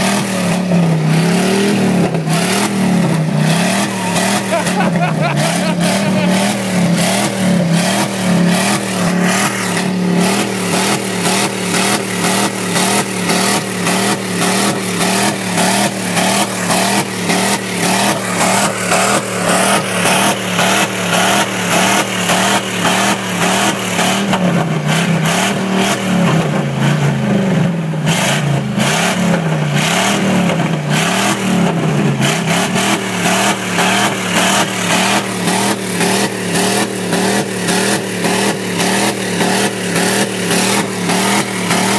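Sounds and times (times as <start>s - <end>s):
engine stuttering on rev limiter: 0.0s - 41.9s.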